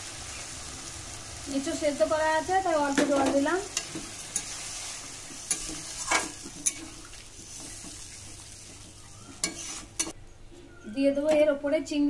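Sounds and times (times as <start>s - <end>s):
curry hissing on flame: 0.0s - 10.1s.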